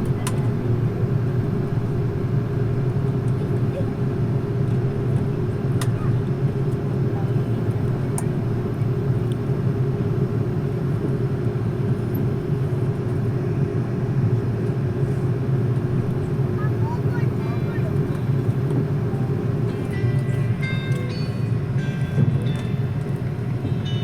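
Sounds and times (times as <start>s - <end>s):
airplane cabin rumble and hum: 0.0s - 24.0s.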